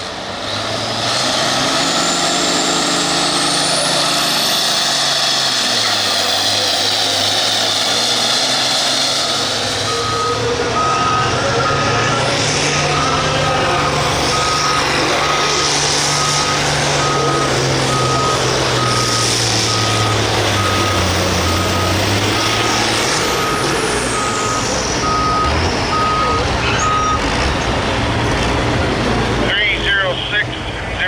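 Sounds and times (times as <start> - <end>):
engine running: 0.0 - 31.0
reversing alarm beeping: 1.4 - 27.3.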